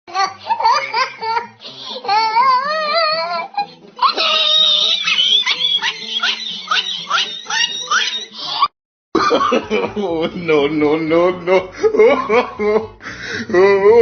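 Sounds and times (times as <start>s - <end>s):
monkey laughing: 0.1s - 10.2s, 11.5s - 13.0s.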